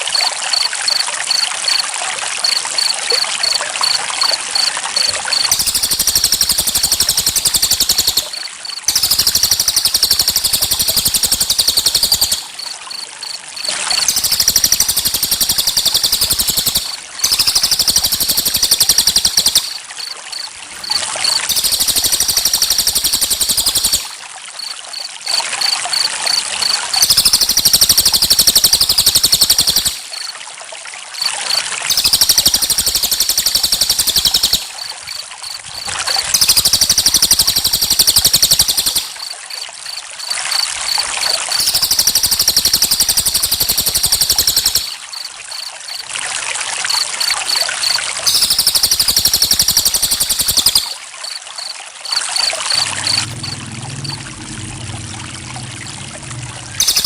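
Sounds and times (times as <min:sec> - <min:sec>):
crickets chirping: 0:00.0 - 0:30.4, 0:31.2 - 0:57.0
water trickling: 0:00.0 - 0:57.0.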